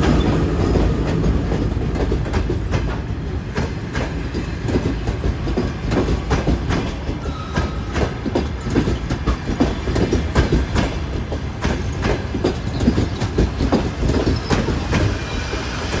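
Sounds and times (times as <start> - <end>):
low train rumble: 0.0 - 16.0
train wheels clacking over rail joints: 0.0 - 16.0.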